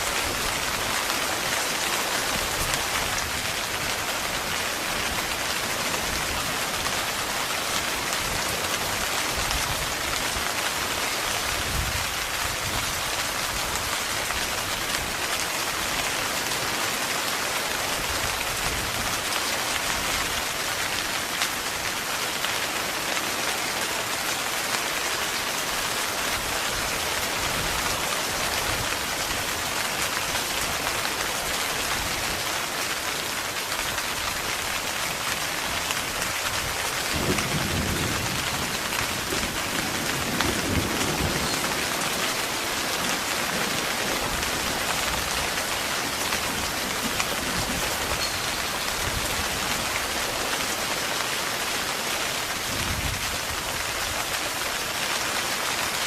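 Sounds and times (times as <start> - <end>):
heavy rain on a tent: 0.0 - 56.0.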